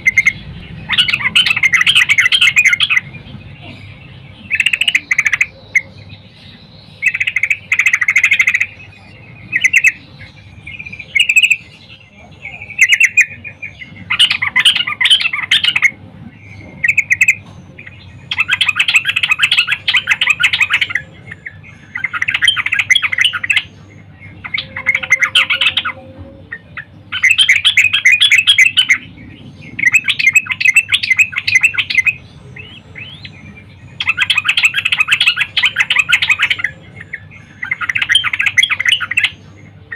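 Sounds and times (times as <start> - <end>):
bulbul chattering call: 0.0 - 39.9.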